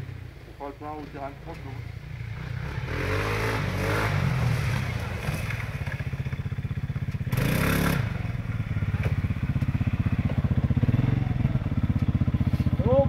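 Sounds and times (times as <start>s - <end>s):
quad engines idling: 0.0s - 4.0s, 4.6s - 13.0s
quad engine revving: 1.5s - 13.0s.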